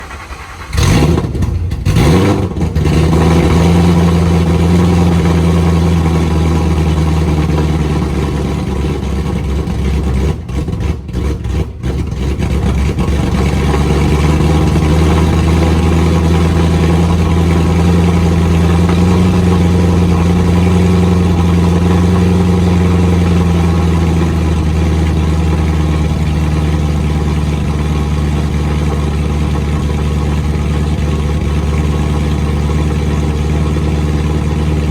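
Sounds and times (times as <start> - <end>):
car engine starting and idling loudly: 0.0 - 34.9.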